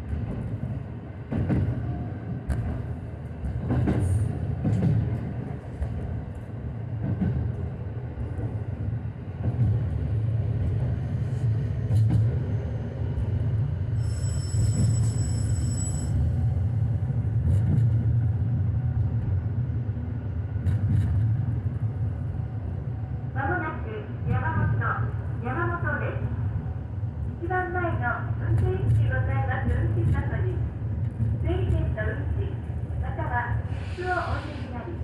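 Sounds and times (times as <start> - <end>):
railcar engine and wheels drone: 0.0 - 35.0.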